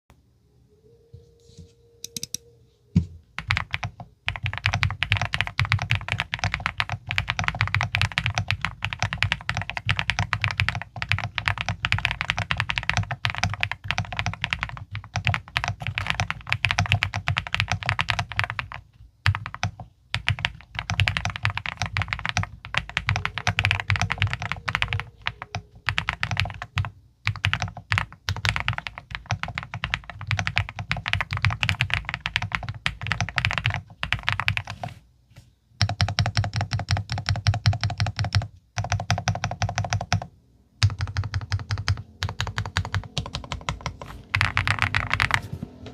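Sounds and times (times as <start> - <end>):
fast mechanical keyboard typing: 3.4 - 34.9, 35.8 - 45.6.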